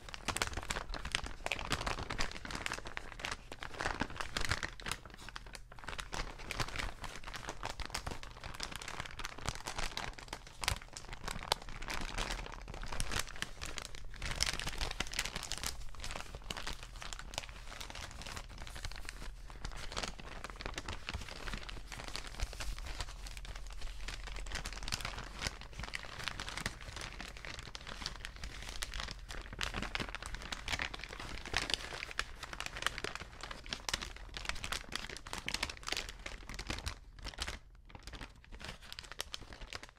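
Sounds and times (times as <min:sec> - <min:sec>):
paper bags crinkling: 0:00.0 - 0:39.9.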